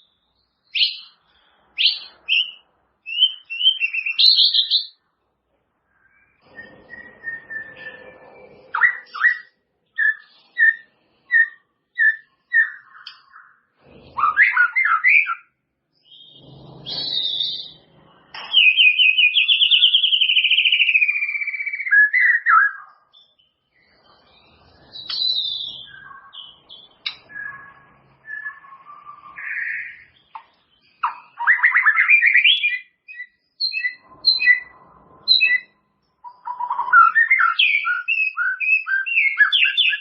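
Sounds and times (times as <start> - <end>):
bird singing whistles and chirps: 0.0 - 1.2, 1.8 - 5.0, 6.0 - 40.0.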